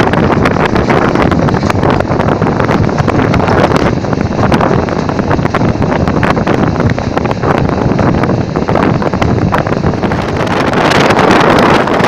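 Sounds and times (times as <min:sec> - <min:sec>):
passenger train running: 0:00.0 - 0:12.0
wind buffeting microphone: 0:00.0 - 0:12.0.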